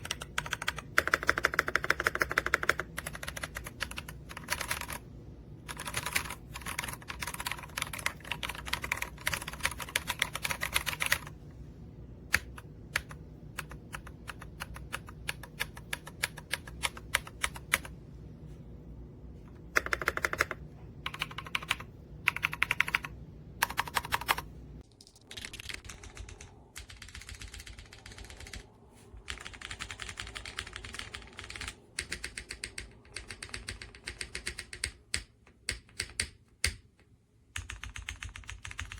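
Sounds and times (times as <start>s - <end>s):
mechanical keyboard typing: 0.0s - 11.4s, 12.3s - 18.0s, 19.5s - 36.9s, 37.5s - 38.9s.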